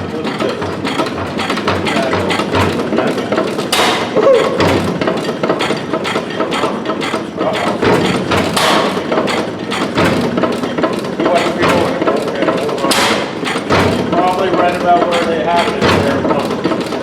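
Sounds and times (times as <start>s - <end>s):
stationary gas engine knocking: 0.0s - 17.0s.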